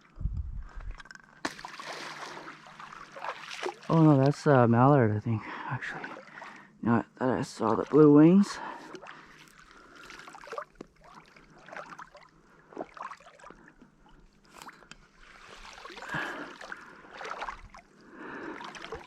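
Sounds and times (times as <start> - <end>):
water sloshing around wading legs: 0.9 - 4.7, 5.4 - 19.0.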